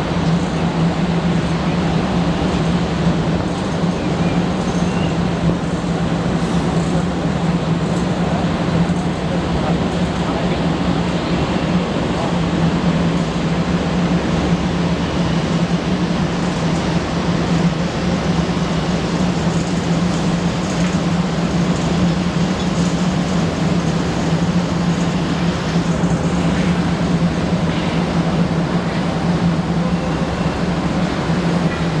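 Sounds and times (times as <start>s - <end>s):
broad rushing noise: 0.0s - 32.0s.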